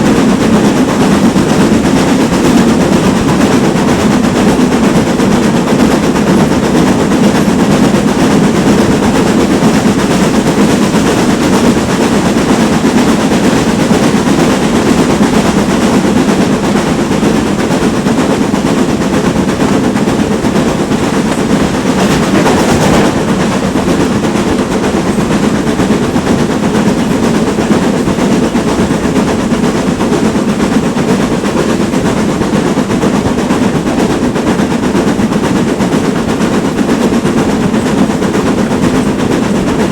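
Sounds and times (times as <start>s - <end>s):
steam locomotive exhaust beat: 0.0s - 39.9s
train running: 0.0s - 39.9s.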